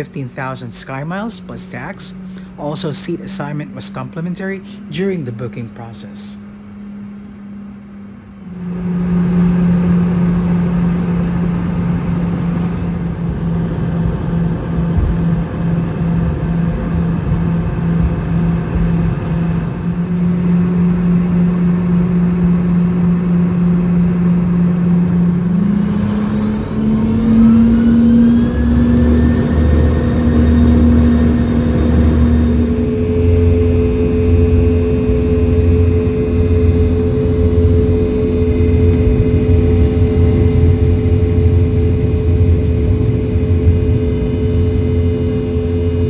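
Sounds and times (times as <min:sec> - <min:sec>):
jet engines humming and whining: 0:00.0 - 0:46.0
low rumble of takeoff roll: 0:00.0 - 0:46.0.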